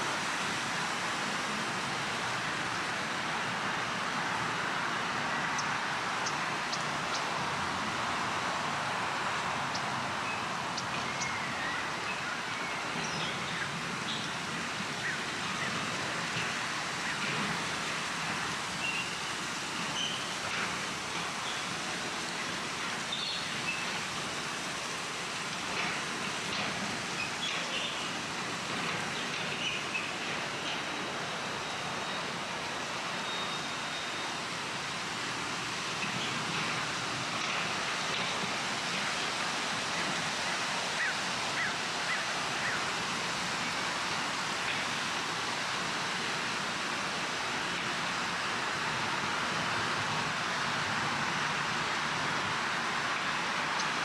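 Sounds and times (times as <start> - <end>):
breeze rustling leaves: 0.0 - 54.0.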